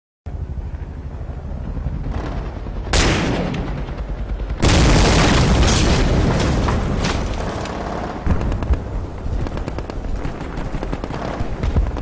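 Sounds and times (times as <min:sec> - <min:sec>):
gunfire and artillery barrage: 0:02.1 - 0:12.0.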